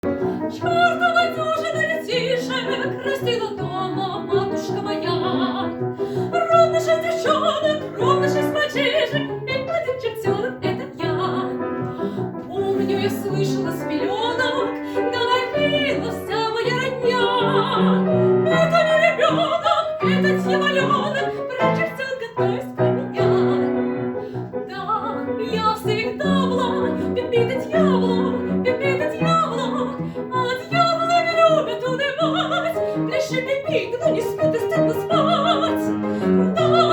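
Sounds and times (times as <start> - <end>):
piano accompaniment: 0.0 - 36.9
soprano singing with vibrato: 0.0 - 36.9.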